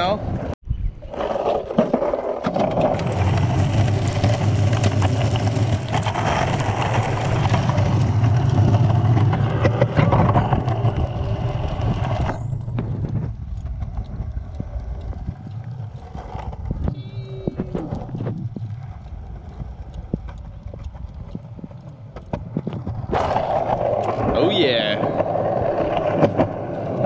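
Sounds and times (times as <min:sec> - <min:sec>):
skateboard wheels rolling on concrete: 0:00.0 - 0:27.0.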